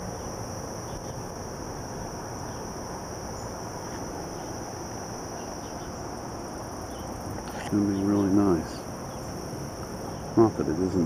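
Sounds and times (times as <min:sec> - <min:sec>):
insect chorus trilling: 0:00.0 - 0:11.0.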